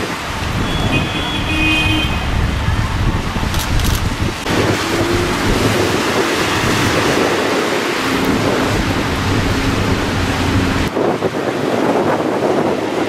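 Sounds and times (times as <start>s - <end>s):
rain on wet street: 0.0s - 13.0s
strong wind: 0.0s - 13.0s
traffic passing on wet road: 0.0s - 13.0s.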